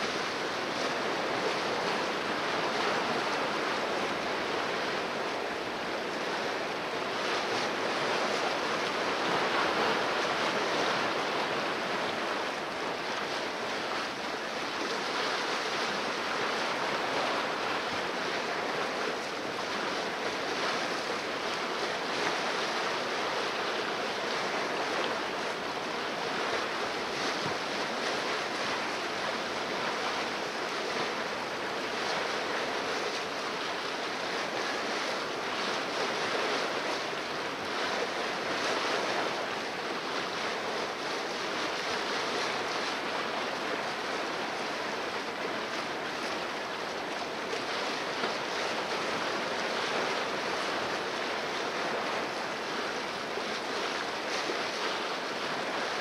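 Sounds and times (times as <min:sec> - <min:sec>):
water rushing along hull: 0:00.0 - 0:56.0
wind: 0:00.0 - 0:56.0.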